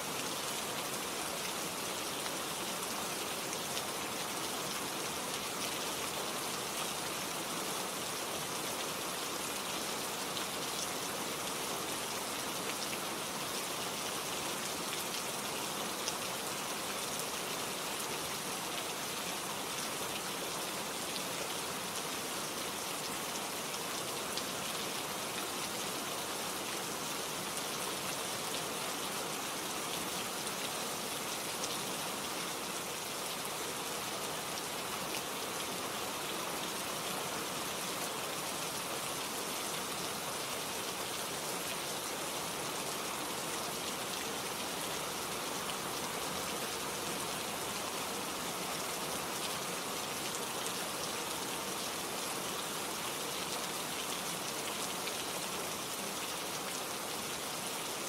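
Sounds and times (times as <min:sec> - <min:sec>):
steady rain on leaves: 0:00.0 - 0:58.0.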